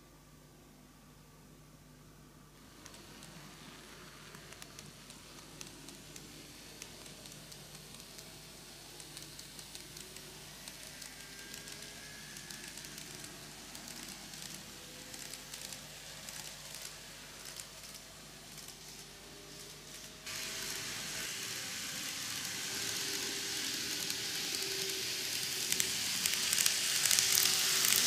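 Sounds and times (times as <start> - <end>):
faint motor whine: 0.0 - 28.0
faint steady hiss: 0.0 - 28.0
model train wheels clicking: 2.8 - 28.0.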